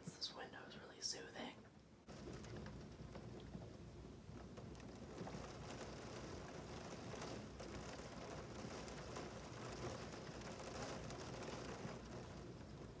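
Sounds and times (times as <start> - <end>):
rain hissing against a window: 0.0 - 13.0
raindrops ticking: 2.1 - 13.0.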